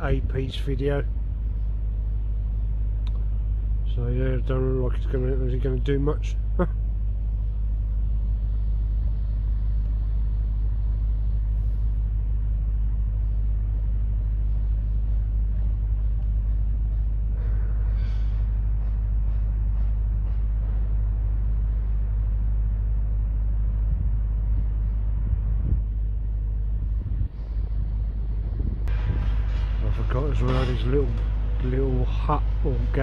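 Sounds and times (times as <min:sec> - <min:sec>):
excavator diesel engine rumble: 0:00.0 - 0:33.0.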